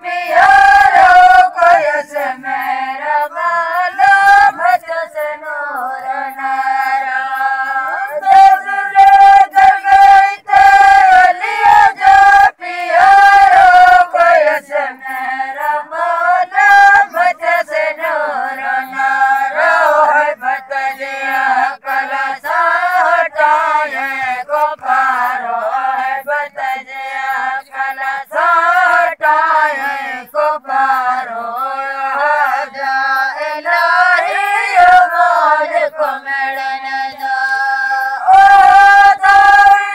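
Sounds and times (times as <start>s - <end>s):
chorus singing devotional song: 0.0s - 39.9s.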